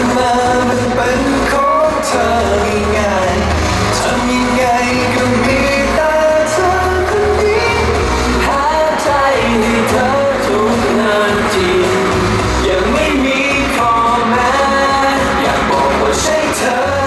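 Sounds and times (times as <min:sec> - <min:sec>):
band with bass and drums: 0:00.0 - 0:17.0
men singing pop song: 0:00.0 - 0:17.0.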